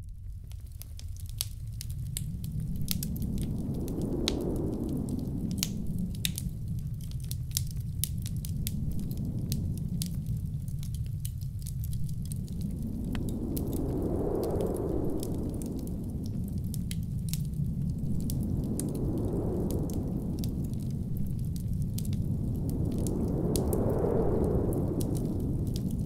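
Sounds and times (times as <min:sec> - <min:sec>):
wood fire crackling and popping: 0:00.1 - 0:26.0
blizzard wind: 0:00.2 - 0:26.0.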